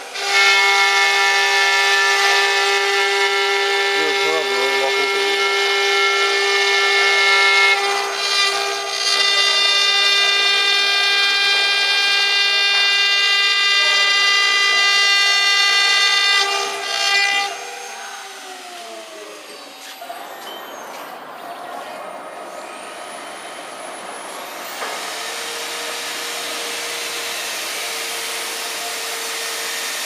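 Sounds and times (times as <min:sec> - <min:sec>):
router spindle whine: 0:00.0 - 0:30.0.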